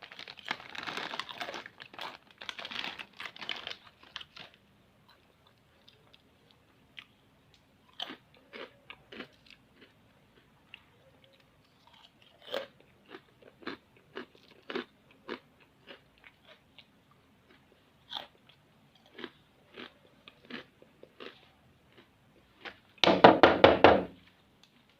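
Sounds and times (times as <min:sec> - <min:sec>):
crunchy snack being chewed: 0:00.0 - 0:07.2, 0:07.8 - 0:22.8.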